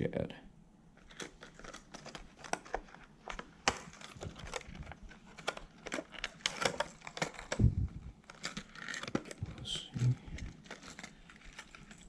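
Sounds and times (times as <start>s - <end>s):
packaging clicking and crackling: 1.0s - 12.0s.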